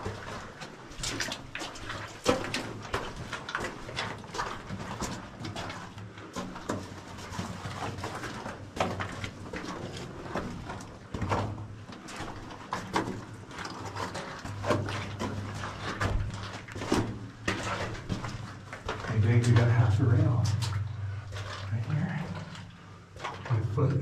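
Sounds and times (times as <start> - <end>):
footsteps on rocky floor: 0.0 - 23.6.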